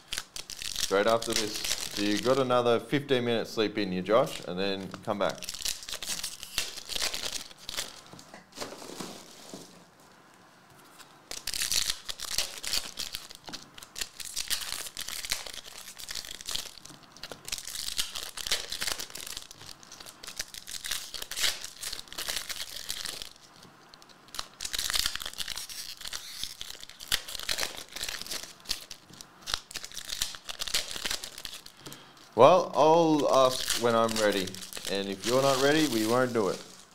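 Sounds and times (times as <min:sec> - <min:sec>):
foil wrappers tearing and crinkling: 0:00.0 - 0:02.5, 0:05.2 - 0:09.7, 0:11.3 - 0:31.8, 0:33.0 - 0:36.9.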